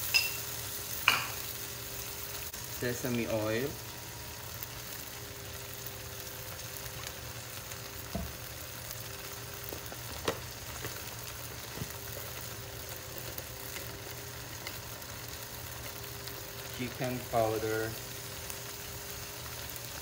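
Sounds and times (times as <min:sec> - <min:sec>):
beef sizzling in a pan: 0:00.0 - 0:20.0.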